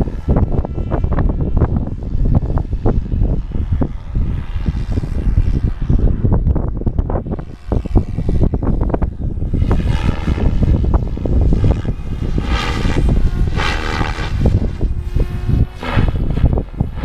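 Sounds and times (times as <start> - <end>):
gusting low rumble: 0.0 - 17.0
rc helicopter motor and rotor whine: 0.0 - 17.0.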